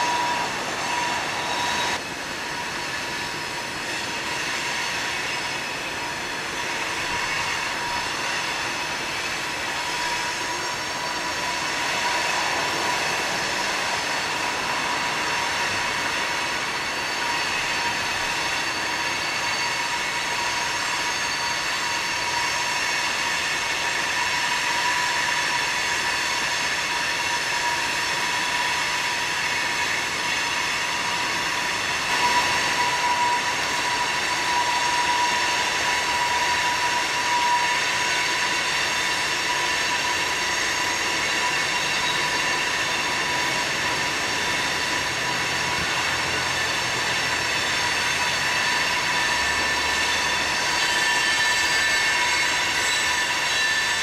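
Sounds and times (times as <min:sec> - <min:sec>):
rumble of train: 0:00.0 - 0:54.0
train wheels screeching on rails: 0:00.0 - 0:54.0.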